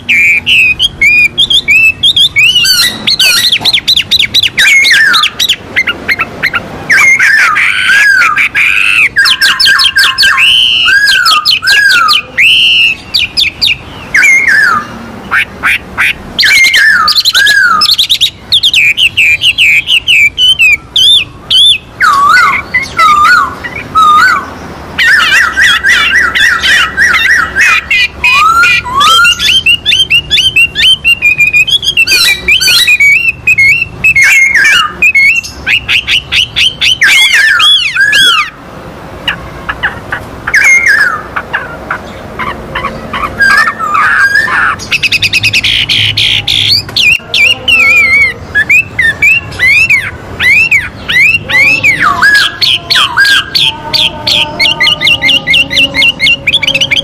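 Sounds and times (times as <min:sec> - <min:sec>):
birds singing whistled phrases: 0:00.0 - 0:38.6, 0:39.2 - 0:57.0.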